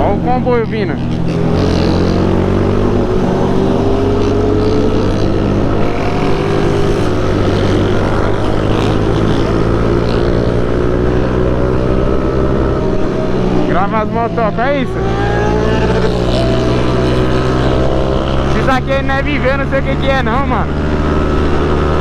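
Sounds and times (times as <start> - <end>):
low motorcycle engine note: 0.0 - 22.0
rising motorcycle engine note: 0.0 - 22.0.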